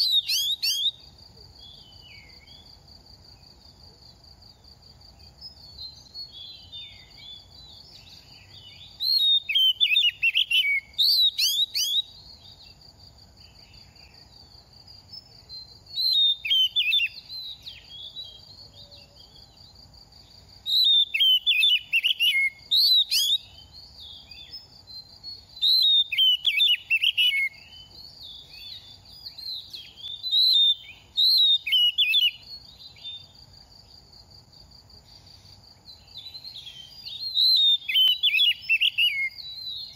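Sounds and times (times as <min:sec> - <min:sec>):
bird singing whistled notes: 0:00.0 - 0:02.8, 0:05.1 - 0:12.8, 0:13.4 - 0:33.7, 0:35.0 - 0:39.9.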